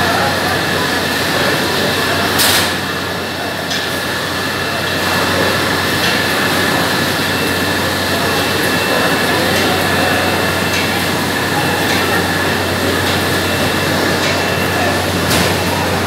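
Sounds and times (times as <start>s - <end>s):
machinery low hum: 0.0s - 16.0s.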